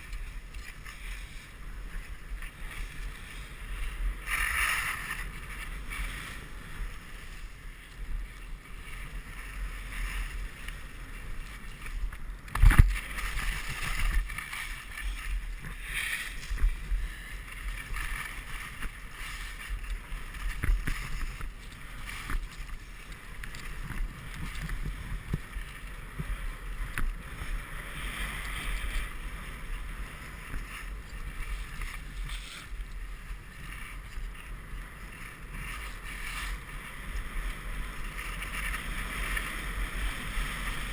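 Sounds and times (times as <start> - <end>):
skis hissing over snow: 0.0 - 40.9
wind buffeting microphone: 0.0 - 40.9.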